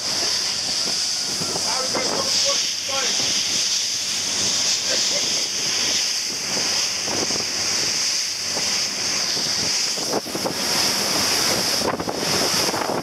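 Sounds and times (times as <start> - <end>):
wind buffeting microphone: 0.0 - 3.6, 5.4 - 13.0
water rushing along boat hull: 0.0 - 13.0.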